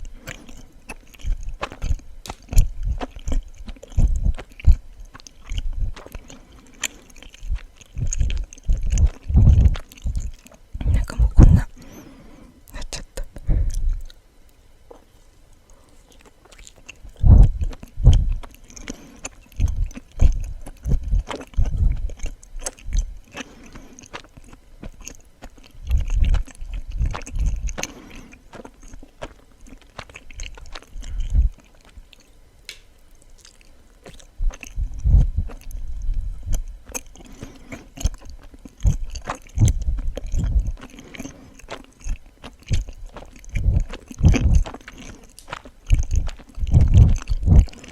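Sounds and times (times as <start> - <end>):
wet mouth clicks: 0.0 - 12.0, 16.2 - 32.0, 33.4 - 47.9
chewing soft sweet: 0.0 - 47.9.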